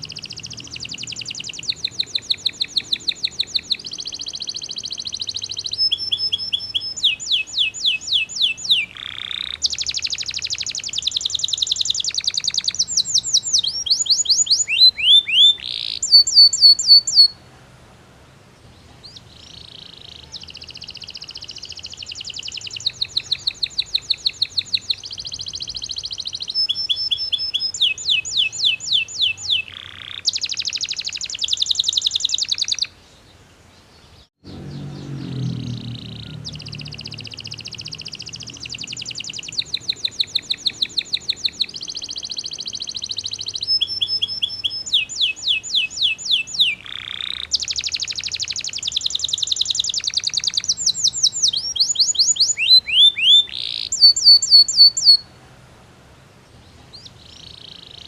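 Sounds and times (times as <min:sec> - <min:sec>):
canary singing rapid trills: 0:00.0 - 0:17.4, 0:19.0 - 0:33.0, 0:34.4 - 0:55.3.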